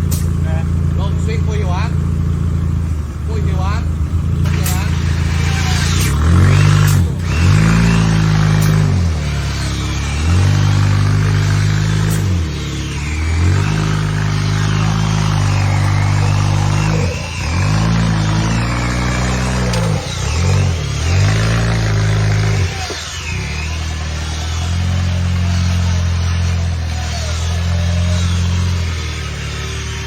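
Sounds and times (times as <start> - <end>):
engine revving hard: 0.0 - 30.0.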